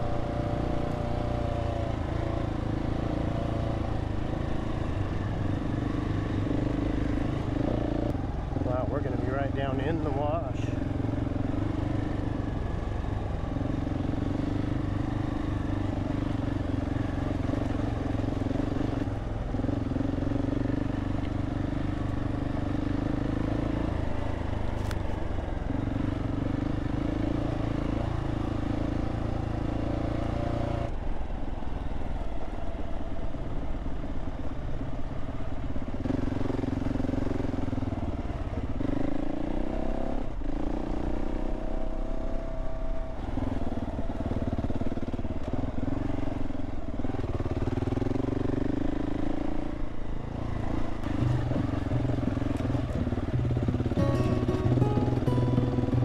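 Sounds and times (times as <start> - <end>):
motorcycle engine running: 0.0 - 31.4, 32.2 - 56.0.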